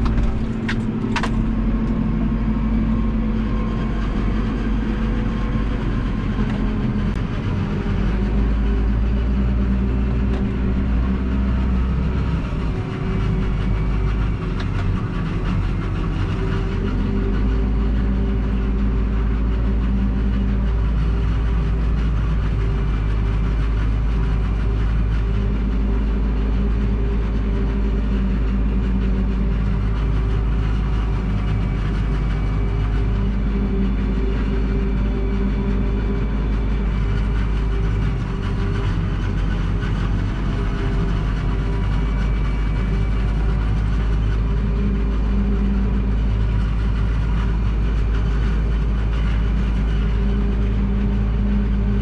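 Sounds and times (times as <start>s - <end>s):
harvesting machinery running: 0.0s - 52.0s
tractor diesel engine droning: 0.0s - 52.0s.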